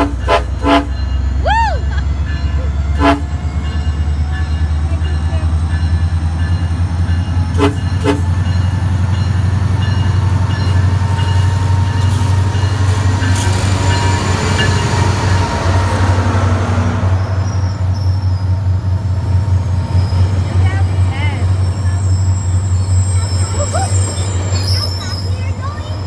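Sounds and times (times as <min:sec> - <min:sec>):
locomotive engine droning: 0:00.0 - 0:26.0
train coaches rolling past: 0:00.0 - 0:26.0.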